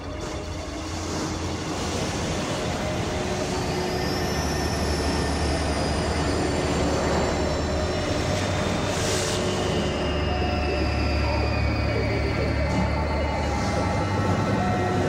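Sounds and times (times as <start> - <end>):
rumbling electronic noise texture: 0.4 - 15.0.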